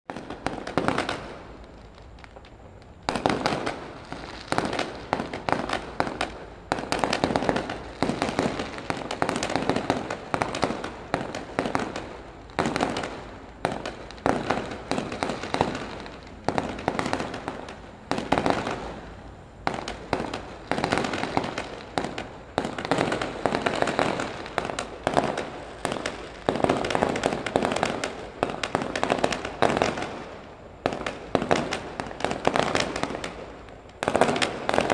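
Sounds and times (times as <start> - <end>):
firework bangs and crackles: 0.1 - 34.9.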